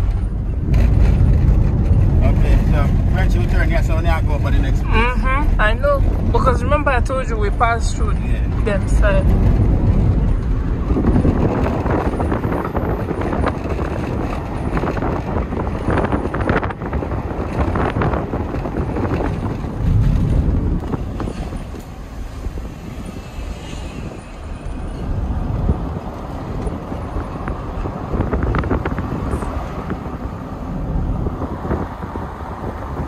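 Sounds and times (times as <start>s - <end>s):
car road and engine noise: 0.0s - 33.0s
wind buffeting microphone: 0.0s - 33.0s.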